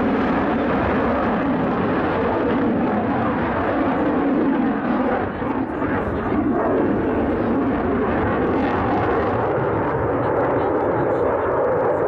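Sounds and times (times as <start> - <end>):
fighter jet roar overhead: 0.0 - 12.0.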